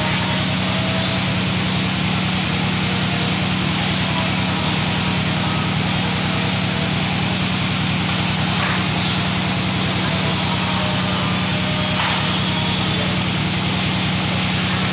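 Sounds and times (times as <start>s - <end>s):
steady mechanical drone: 0.0s - 14.9s.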